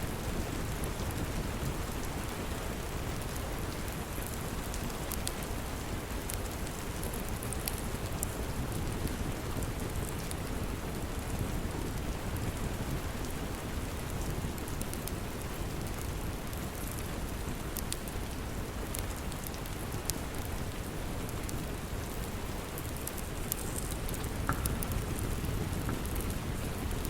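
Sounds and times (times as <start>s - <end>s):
steady rain hiss: 0.0s - 27.0s
log fire crackling: 0.1s - 27.0s.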